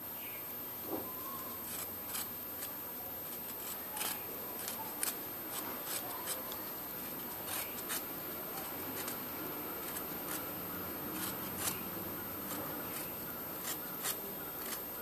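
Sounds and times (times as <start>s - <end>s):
knife scraping potato skin: 1.0s - 15.0s.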